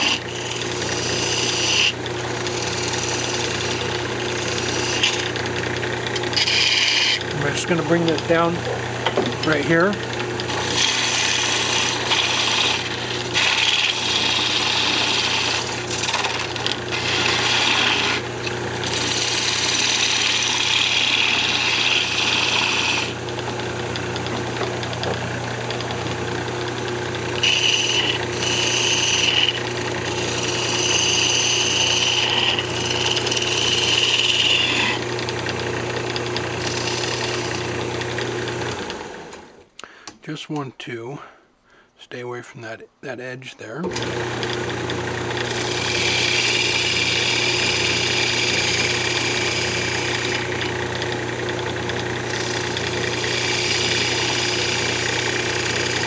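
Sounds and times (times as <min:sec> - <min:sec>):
wood lathe motor hum: 0:00.0 - 0:40.2, 0:43.8 - 0:56.0
turning tool cutting wood: 0:00.0 - 0:40.6, 0:43.6 - 0:56.0.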